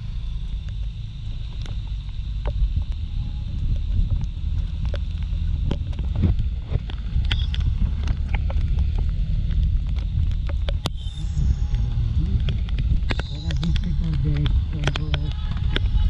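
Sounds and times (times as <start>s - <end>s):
wind rumble on microphone: 0.0s - 16.0s
raindrops ticking on microphone: 0.1s - 16.0s.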